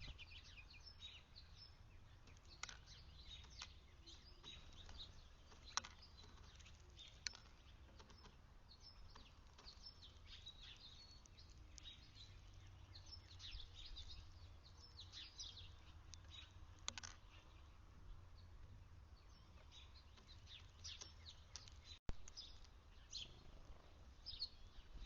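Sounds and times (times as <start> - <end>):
small songbirds chirping: 0.0 - 25.0.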